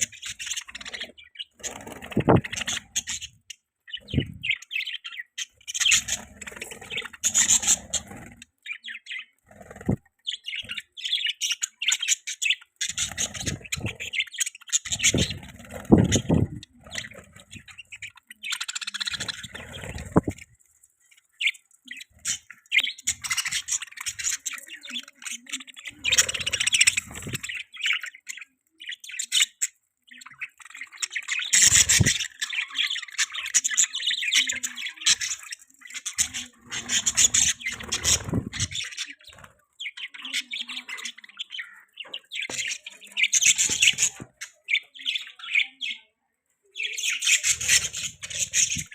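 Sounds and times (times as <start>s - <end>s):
budgerigars chirping: 0.0s - 20.4s, 21.4s - 46.1s, 46.8s - 48.9s.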